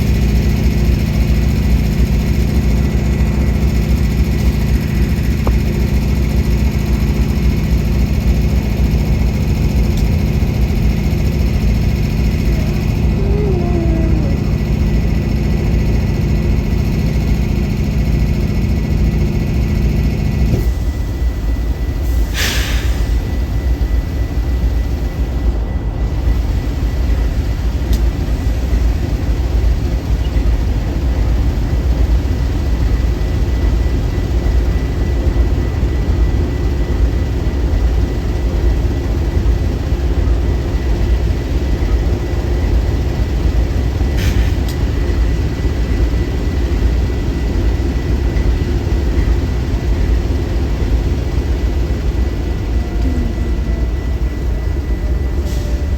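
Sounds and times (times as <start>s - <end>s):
train rumbling: 0.0s - 55.9s.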